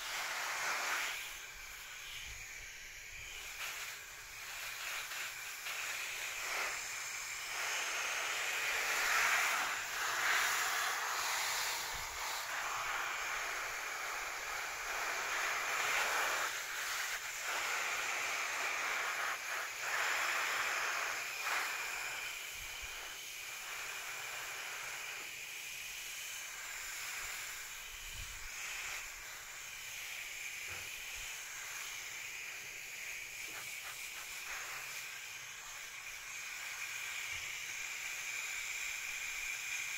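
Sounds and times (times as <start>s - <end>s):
hose spraying water on leaves: 0.0s - 39.9s.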